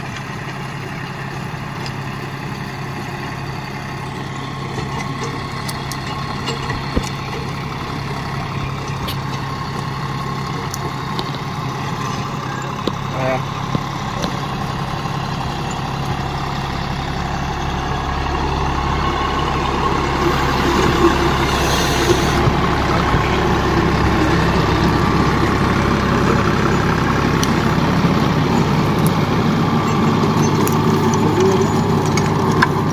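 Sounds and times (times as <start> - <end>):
tractor diesel engine under load: 0.0 - 32.9.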